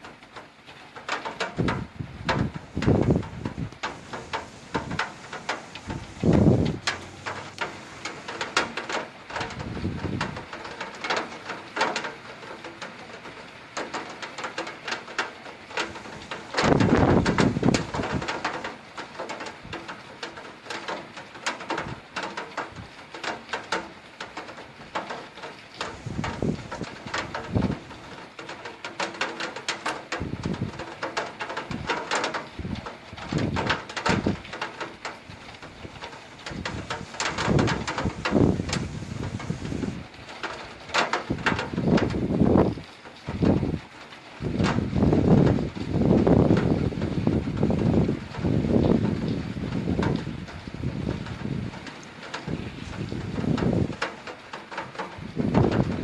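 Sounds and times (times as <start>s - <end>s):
rain pattering on hard surface: 0.0s - 56.0s.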